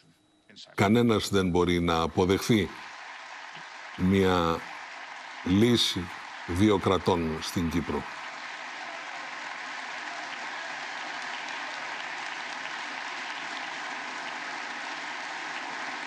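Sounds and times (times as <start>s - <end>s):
large audience applauding: 1.0s - 16.0s.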